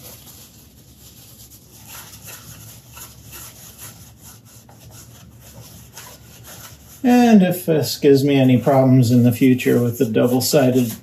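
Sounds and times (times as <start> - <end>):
paper towel wiping plastic: 0.0 - 11.0.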